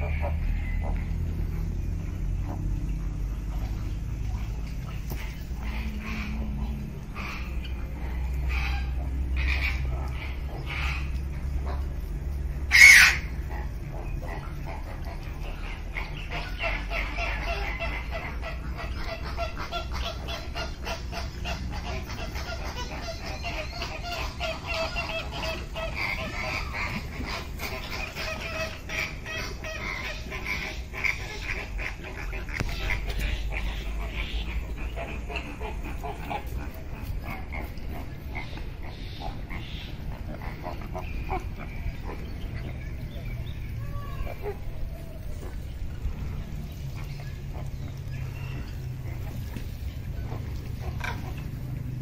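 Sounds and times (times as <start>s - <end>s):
high bird chatter: 0.0s - 52.0s.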